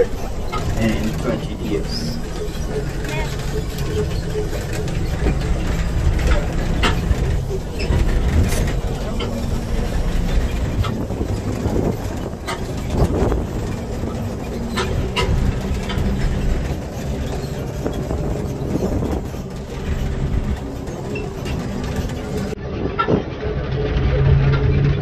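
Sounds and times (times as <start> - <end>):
body knocks and rattles: 0.0 - 22.6
vehicle engine and road rumble: 0.0 - 25.0.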